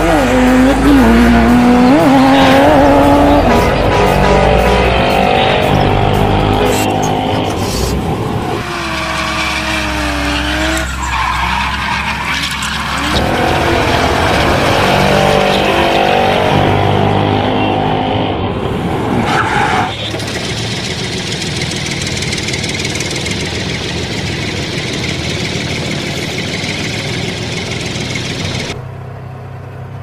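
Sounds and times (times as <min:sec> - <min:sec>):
vehicle engine running: 0:00.0 - 0:19.0, 0:19.9 - 0:30.0.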